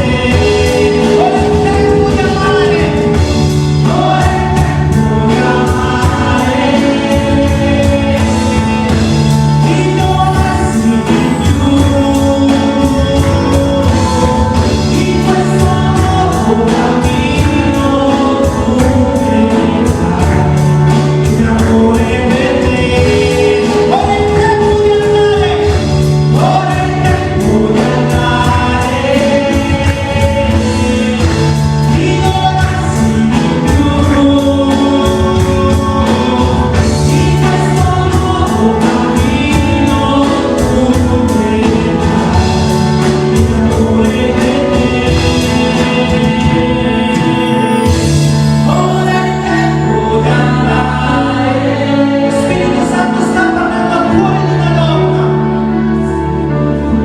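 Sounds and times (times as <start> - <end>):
group singing over a band: 0.0 - 55.3.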